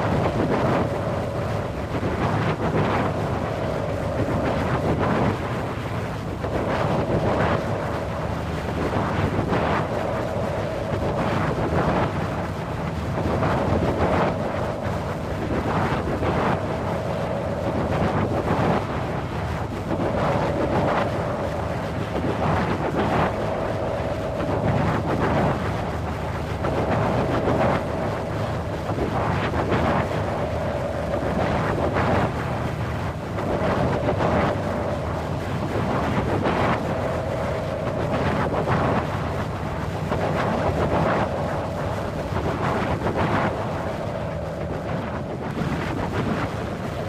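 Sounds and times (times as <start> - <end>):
low rumble: 0.0 - 47.0
strong gusty wind: 0.0 - 47.0.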